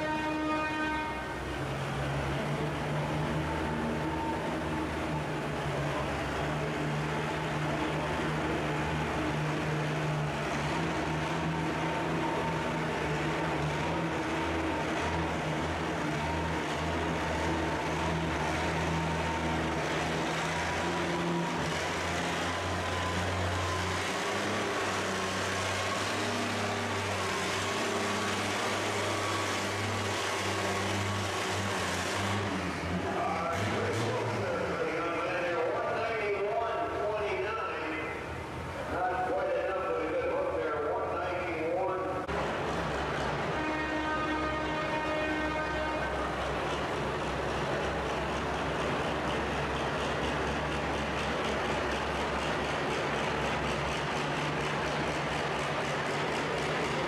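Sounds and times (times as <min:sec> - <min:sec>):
tractor engine running hard: 0:00.0 - 0:57.0.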